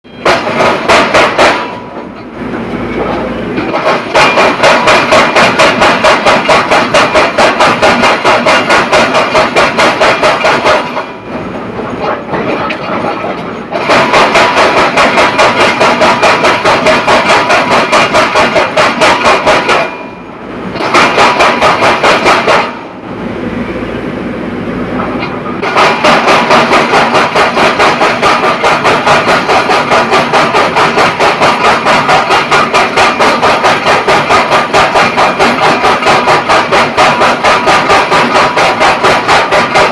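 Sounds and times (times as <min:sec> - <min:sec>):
machine noise: 0:00.0 - 0:39.9
rapid metallic knocking: 0:00.2 - 0:20.0, 0:20.8 - 0:22.8, 0:25.0 - 0:39.9.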